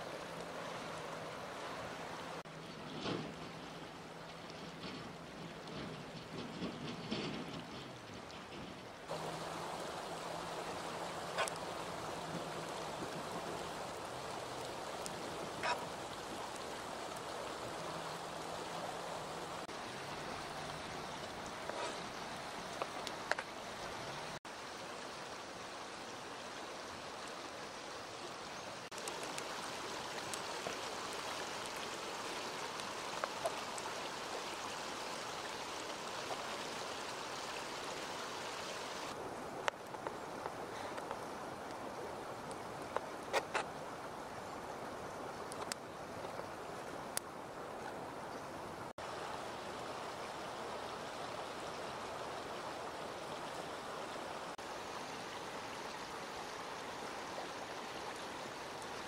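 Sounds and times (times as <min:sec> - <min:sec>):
river rushing: 0:00.0 - 0:06.2, 0:09.0 - 0:59.0.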